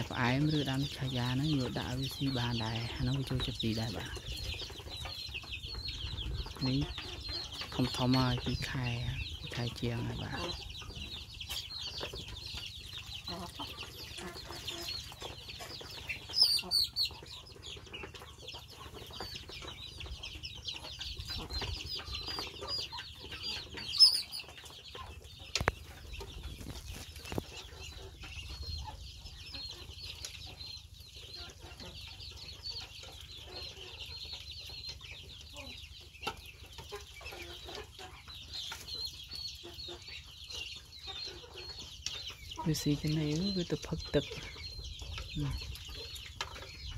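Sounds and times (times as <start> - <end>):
ducklings peeping: 0.0 - 46.9.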